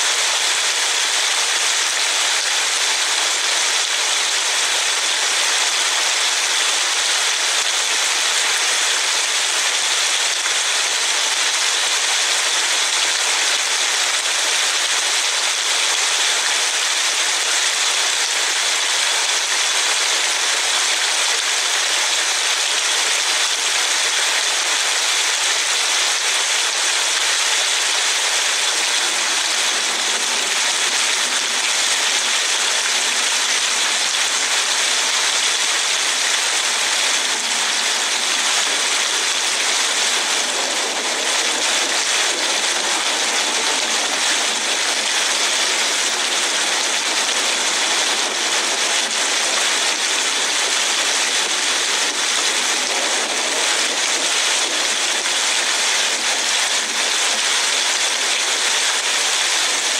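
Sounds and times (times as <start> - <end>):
rain hissing: 0.0 - 59.9.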